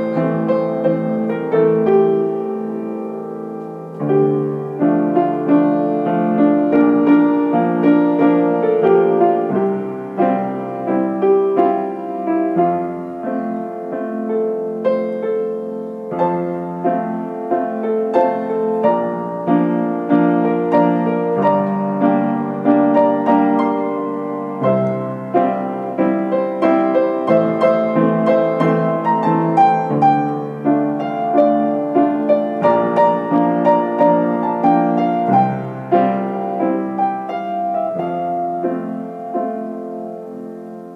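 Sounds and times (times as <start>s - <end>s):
piano playing: 0.0s - 40.9s.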